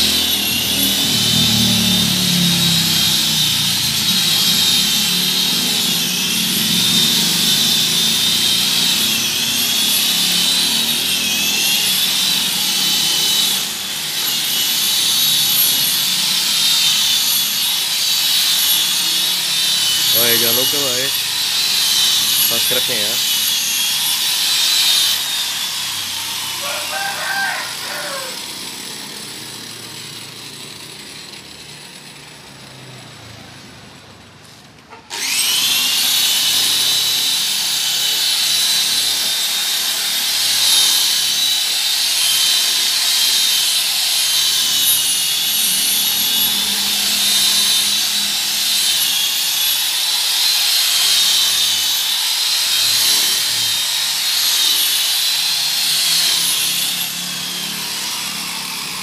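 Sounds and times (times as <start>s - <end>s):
rotary polisher motor whining: 0.0s - 33.4s, 34.4s - 59.0s.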